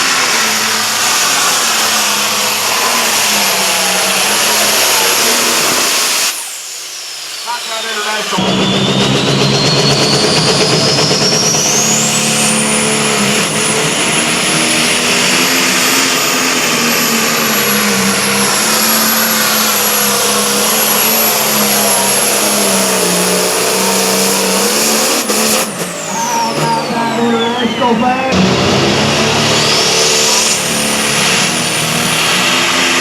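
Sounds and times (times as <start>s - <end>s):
diesel engine at full throttle: 0.0s - 33.0s
high whine: 0.0s - 33.0s.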